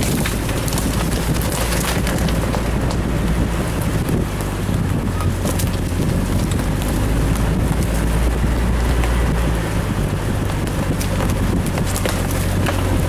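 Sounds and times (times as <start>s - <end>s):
clicks and knocks from bumps: 0.0s - 9.4s, 10.3s - 13.0s
vehicle engine humming: 0.0s - 13.0s
wind buffeting microphone: 0.0s - 13.0s.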